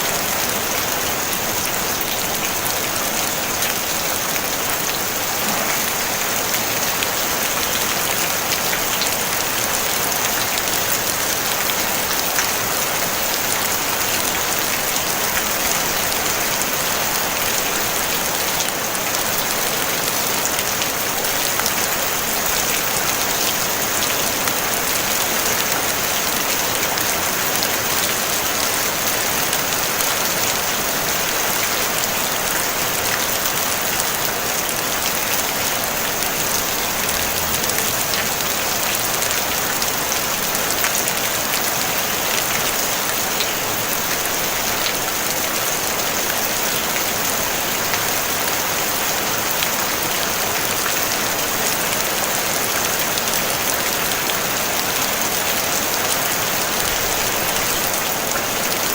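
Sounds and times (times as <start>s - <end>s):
rain on a tin roof: 0.0s - 58.9s.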